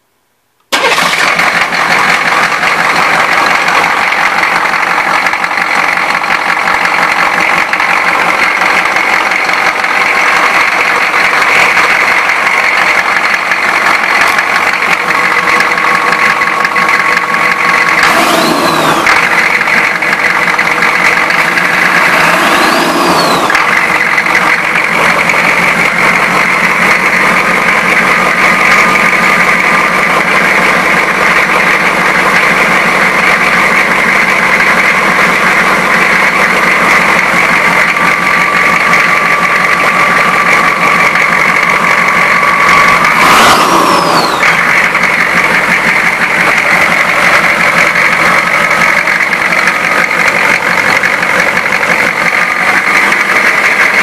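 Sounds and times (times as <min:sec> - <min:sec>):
diesel engine running: 0:00.7 - 0:54.0.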